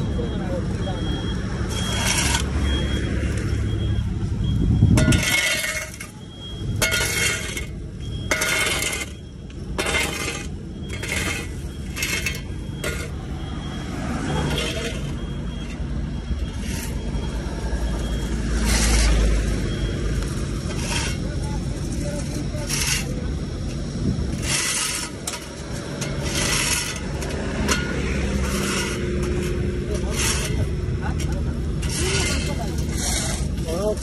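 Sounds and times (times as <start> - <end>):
road machinery engine hum: 0.0 - 34.0
shovels scraping pavement: 1.7 - 3.0, 4.9 - 34.0.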